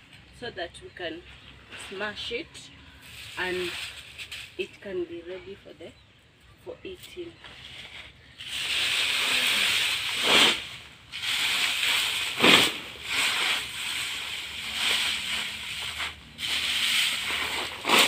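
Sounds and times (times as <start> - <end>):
dry bean plants rustling: 1.0 - 5.9, 6.8 - 18.0.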